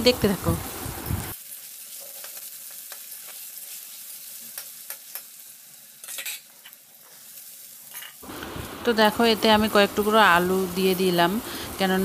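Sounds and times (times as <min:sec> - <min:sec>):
mushrooms sizzling in a wok: 0:00.0 - 0:12.0.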